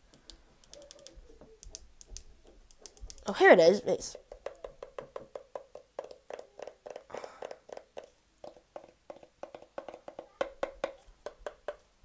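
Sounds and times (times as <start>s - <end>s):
fingers tapping on speaker: 0.0s - 3.3s, 4.2s - 11.9s.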